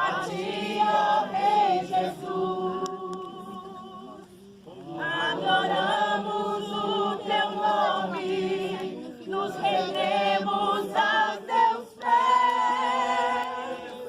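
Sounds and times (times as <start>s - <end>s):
group singing a hymn: 0.0s - 14.0s.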